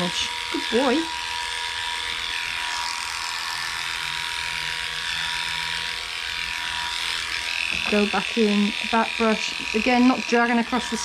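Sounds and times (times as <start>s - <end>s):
dog clipper humming: 0.0s - 11.0s.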